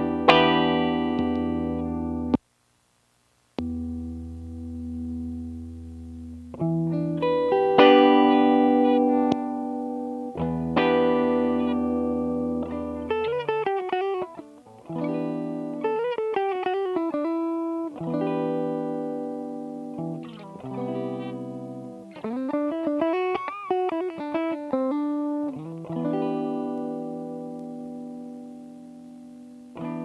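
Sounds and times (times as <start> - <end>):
electric guitar chords and lead: 0.0 - 2.4, 3.6 - 30.0.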